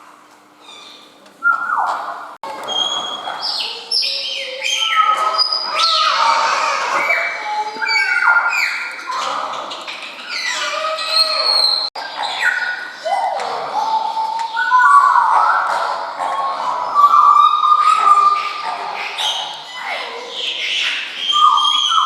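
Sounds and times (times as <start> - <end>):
flock of birds calling: 0.6 - 22.0.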